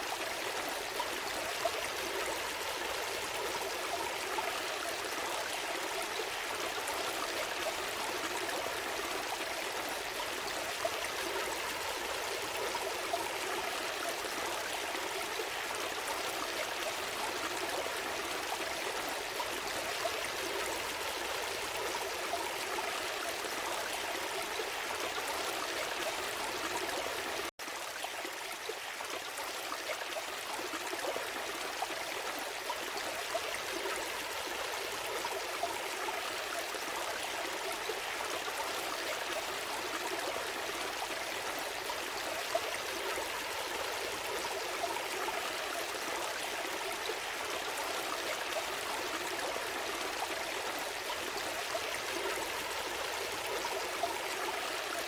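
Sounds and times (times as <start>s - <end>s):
small stream flowing: 0.0s - 55.0s.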